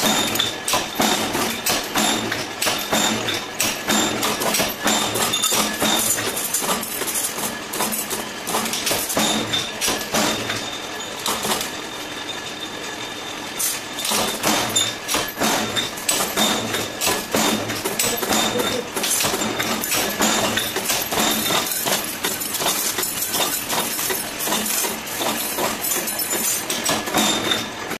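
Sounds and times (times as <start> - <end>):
metal clanks of press stamping: 0.0 - 11.7, 13.6 - 27.9
power press running: 0.0 - 27.9.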